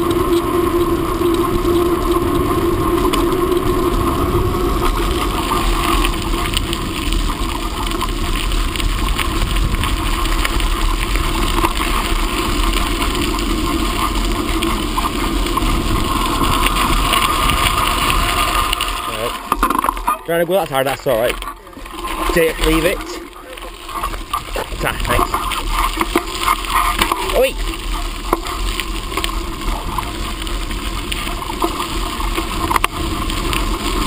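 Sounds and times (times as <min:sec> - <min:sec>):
wind rumble on microphone: 0:00.0 - 0:20.3, 0:21.2 - 0:34.0
bicycle tyres rolling on path: 0:00.0 - 0:34.0.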